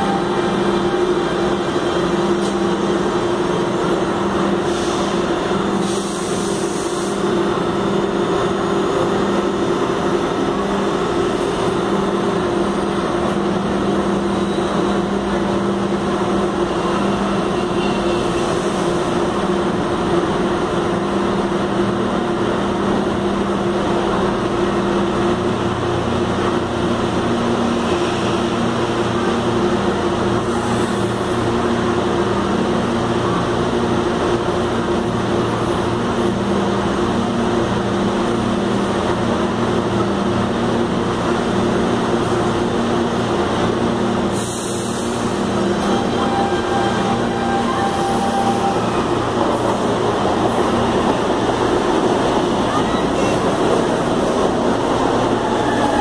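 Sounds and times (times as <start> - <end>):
train slowing to a stop: 0.0 - 56.0.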